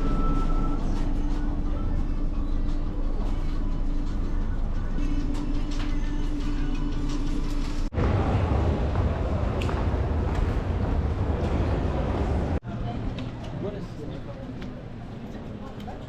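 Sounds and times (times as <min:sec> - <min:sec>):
vehicle engine rumbling: 0:00.0 - 0:13.4.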